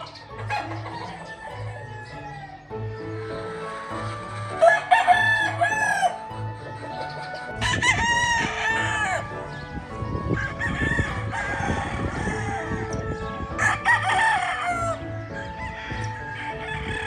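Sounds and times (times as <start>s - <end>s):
roosters crowing: 0.0s - 17.0s.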